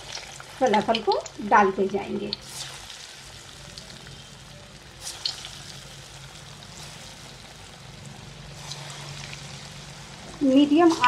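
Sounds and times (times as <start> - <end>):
food sizzling in hot oil: 0.0 - 11.0
oil crackling: 0.0 - 11.0.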